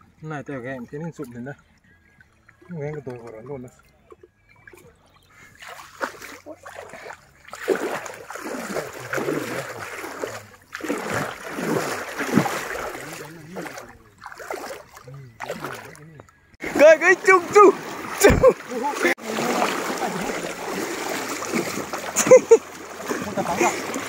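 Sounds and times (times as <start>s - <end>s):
water splashing in shallow river: 0.0s - 24.0s.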